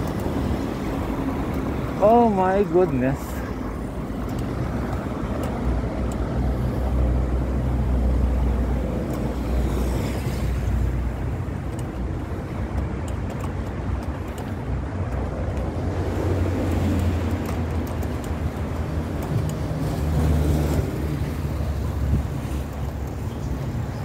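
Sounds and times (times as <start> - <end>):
vehicle engine rumbling on road: 0.0 - 24.0.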